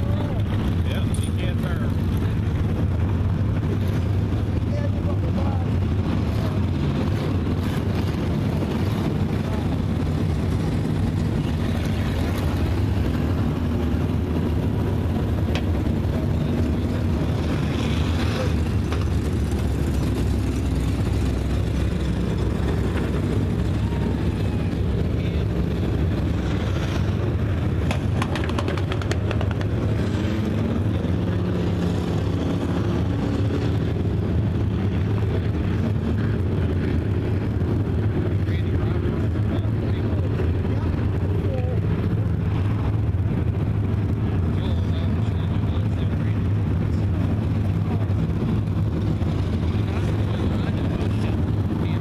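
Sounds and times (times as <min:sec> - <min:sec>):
race car engines droning: 0:00.0 - 0:52.0.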